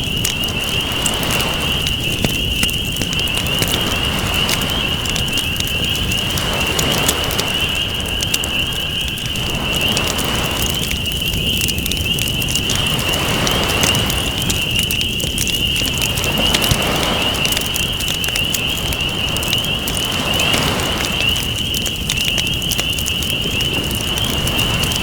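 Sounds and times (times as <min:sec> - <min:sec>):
campfire crackling and popping: 0:00.0 - 0:25.0
ocean waves washing: 0:00.0 - 0:25.0.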